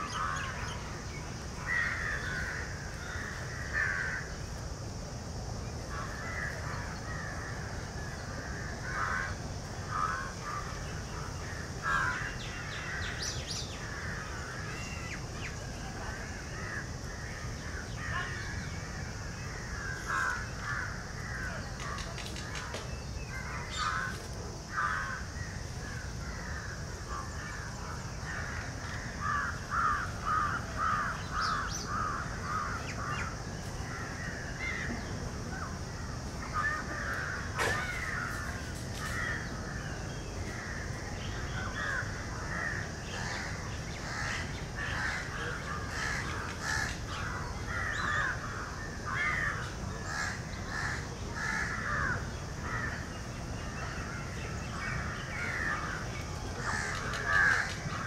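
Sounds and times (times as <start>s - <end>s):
steady high hiss: 0.0s - 58.0s
crows cawing: 1.6s - 4.4s, 8.5s - 15.0s, 16.2s - 22.7s, 23.3s - 35.1s, 36.4s - 39.9s, 40.5s - 58.0s.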